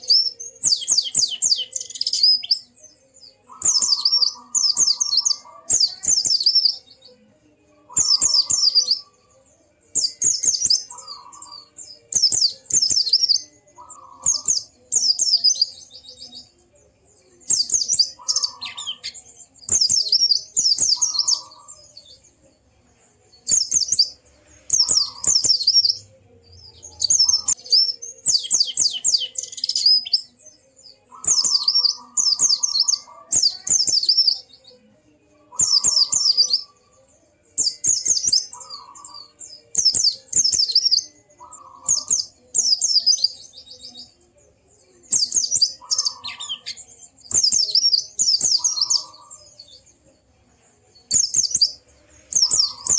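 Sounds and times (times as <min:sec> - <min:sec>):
bird singing chattering trills: 0:00.0 - 0:07.1, 0:07.7 - 0:22.4, 0:23.3 - 0:34.7, 0:35.4 - 0:36.9, 0:37.5 - 0:44.2, 0:45.0 - 0:50.0, 0:51.0 - 0:52.9.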